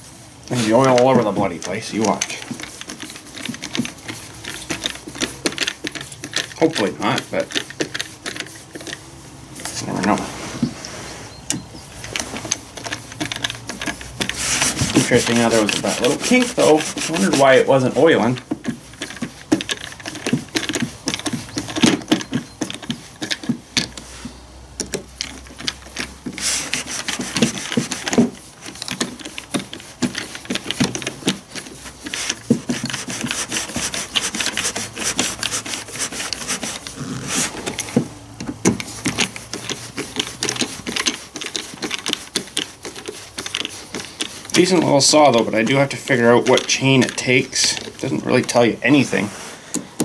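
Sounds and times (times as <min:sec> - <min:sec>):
screwdriver clicking and scraping: 0:00.4 - 0:09.0, 0:11.5 - 0:24.1, 0:24.8 - 0:50.0.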